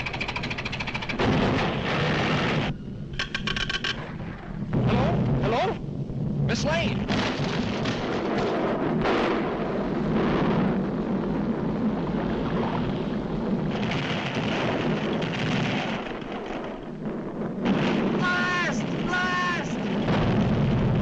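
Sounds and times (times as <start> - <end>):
cartoon volcano rumbling: 0.0 - 3.1, 4.0 - 21.0.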